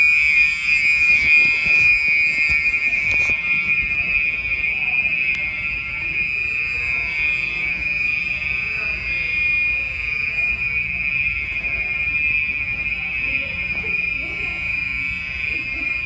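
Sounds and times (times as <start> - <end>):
fire alarm horn steady tone: 0.0 - 16.0.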